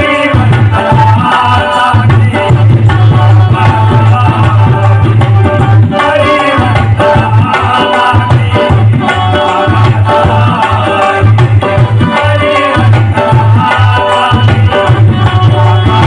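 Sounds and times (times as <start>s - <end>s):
held melody line: 0.0s - 16.0s
tabla rhythm: 0.0s - 16.0s.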